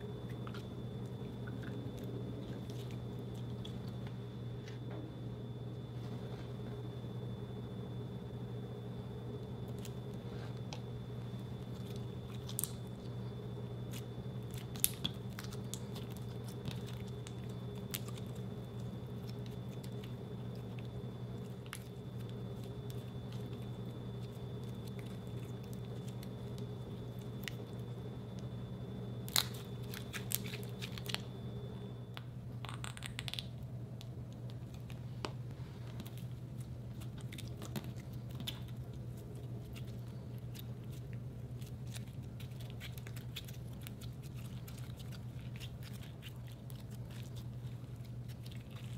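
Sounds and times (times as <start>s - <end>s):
faint high whine: 0.0s - 48.9s
steady low hum: 0.0s - 48.9s.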